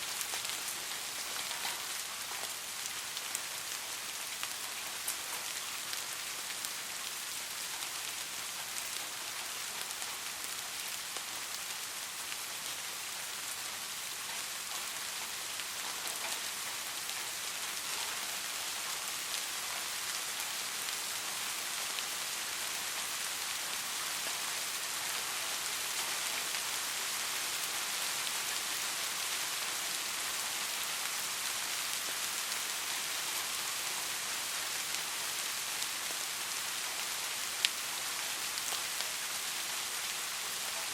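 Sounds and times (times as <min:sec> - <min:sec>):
soft rain pattering: 0:00.0 - 0:40.9.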